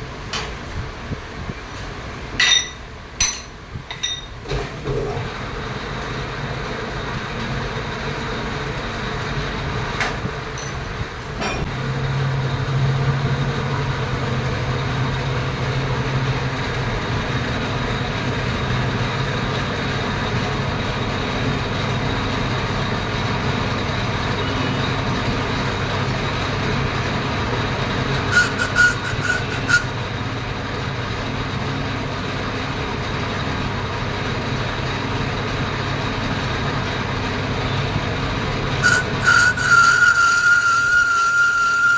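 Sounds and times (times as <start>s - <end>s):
metal lathe humming: 2.4s - 5.0s, 8.0s - 41.9s.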